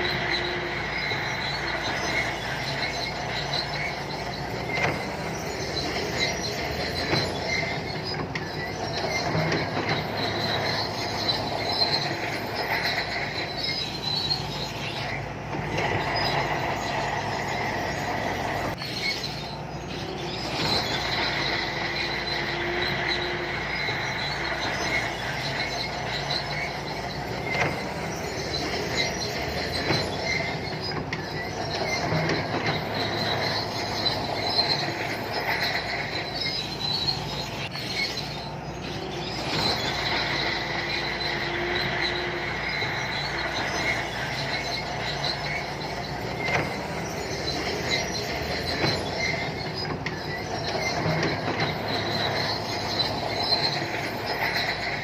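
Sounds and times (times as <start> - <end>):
bulldozer diesel engine under load: 0.0 - 55.0
steel tracks squealing and clanking: 0.0 - 55.0.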